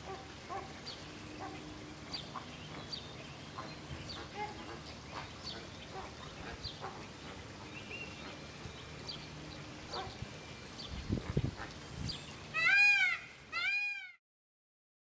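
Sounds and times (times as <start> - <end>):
flamingos calling: 0.0 - 8.7, 9.3 - 14.2.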